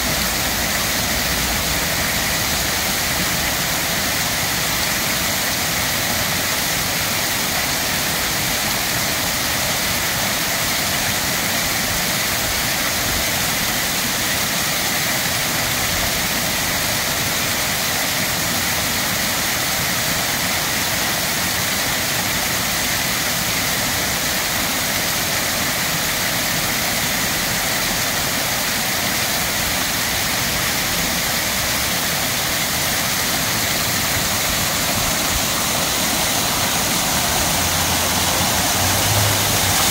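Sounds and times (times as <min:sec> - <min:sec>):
fountain water rushing: 0:00.0 - 0:39.9.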